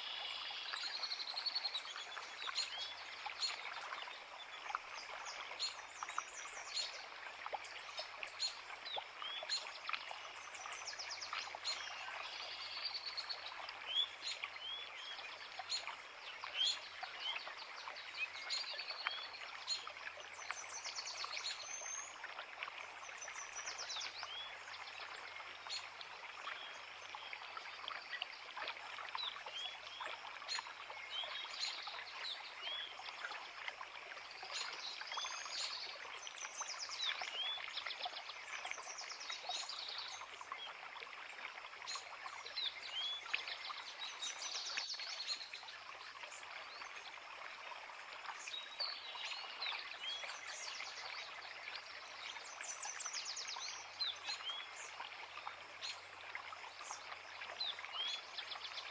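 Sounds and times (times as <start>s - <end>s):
creek running: 0.0s - 58.9s.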